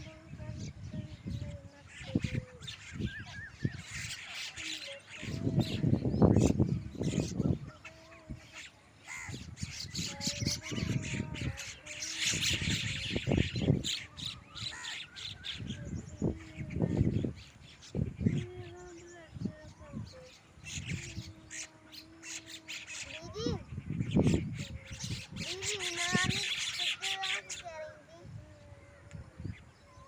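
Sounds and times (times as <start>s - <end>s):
birds calling and chirping: 0.0s - 30.0s.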